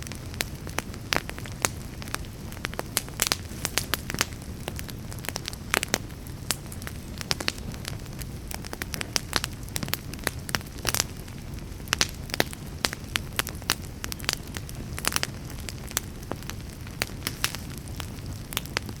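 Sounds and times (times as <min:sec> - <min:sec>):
flames rumbling: 0:00.0 - 0:19.0
wood fire crackling and popping: 0:00.0 - 0:19.0.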